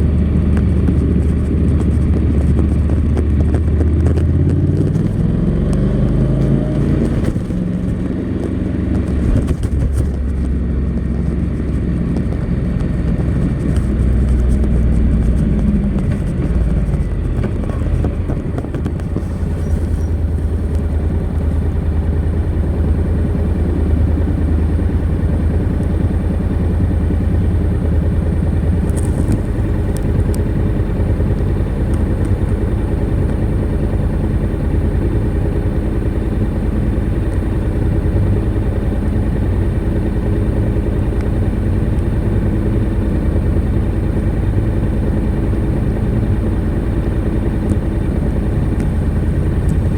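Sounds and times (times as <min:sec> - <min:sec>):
motorcycle engine throbbing: 0:00.0 - 0:49.9.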